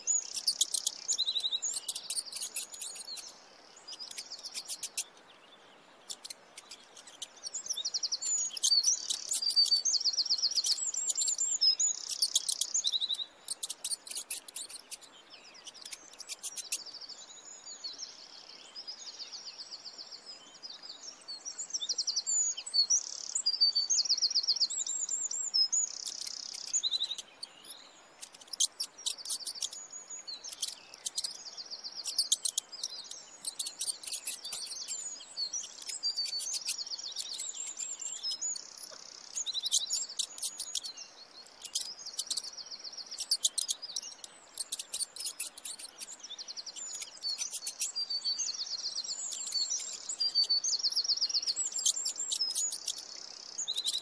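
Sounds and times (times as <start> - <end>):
small songbirds chirping and trilling: 0.0 - 54.0.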